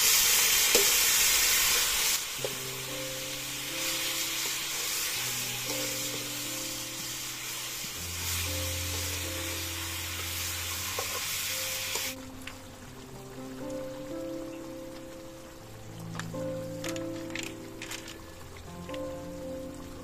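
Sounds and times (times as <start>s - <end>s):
meat sizzling in a wok: 0.0s - 20.0s
slow guitar music: 2.2s - 20.0s.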